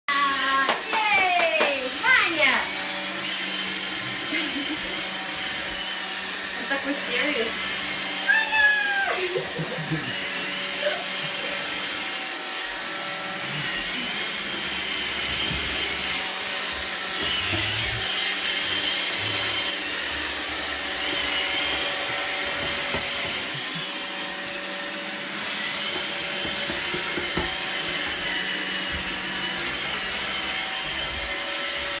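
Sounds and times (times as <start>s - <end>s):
robot vacuum humming and whining: 0.2s - 32.0s.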